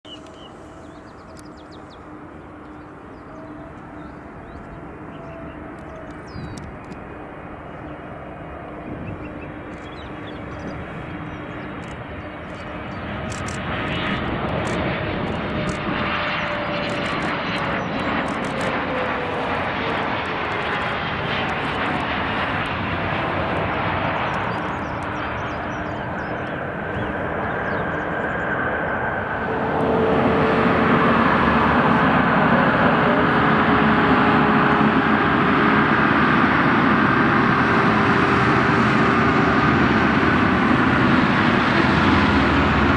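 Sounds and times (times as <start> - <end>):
jet engine roar: 0.1 - 42.9.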